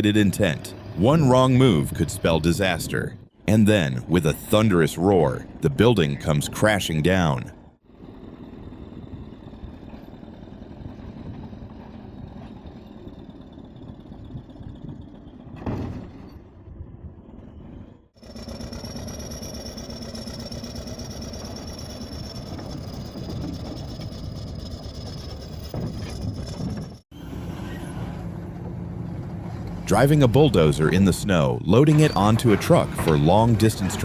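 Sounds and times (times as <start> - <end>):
heavy machinery engines running: 0.0 - 34.0.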